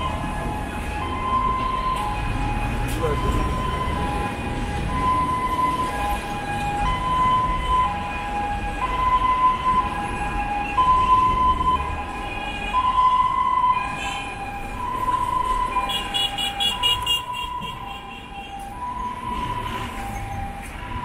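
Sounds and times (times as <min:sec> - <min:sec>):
road traffic rumble: 0:00.0 - 0:21.0
two-tone emergency siren: 0:00.0 - 0:21.0.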